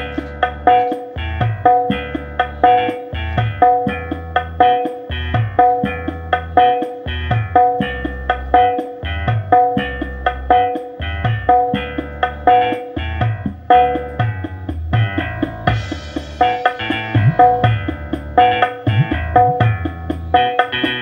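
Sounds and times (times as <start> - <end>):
music through a bare woofer: 0.0 - 21.0.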